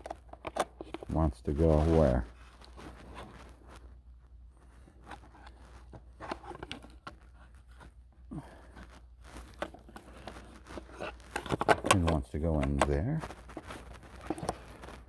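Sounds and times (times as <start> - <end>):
clicks scrapes and rattles: 0.0 - 3.8, 4.8 - 7.9, 8.5 - 15.0.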